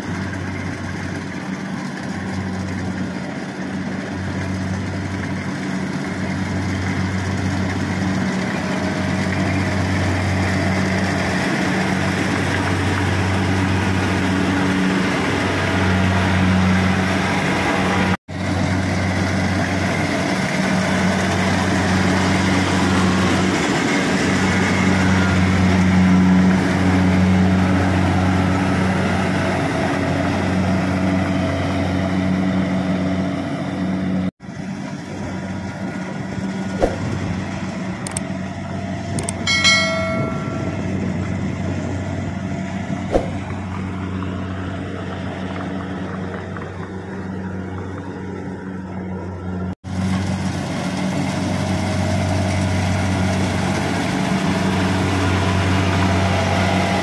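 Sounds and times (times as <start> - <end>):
broad mechanical noise: 0.0 - 57.0
combine engine hum: 0.0 - 57.0.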